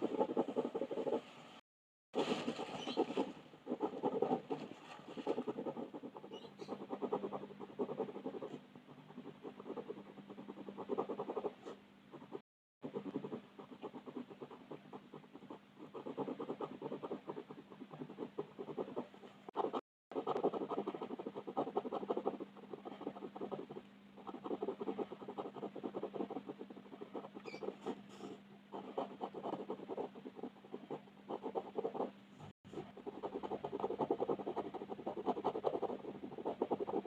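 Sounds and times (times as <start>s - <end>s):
pencil scratching on paper: 0.0s - 1.4s, 2.2s - 37.0s
faint steady hum: 2.2s - 37.0s.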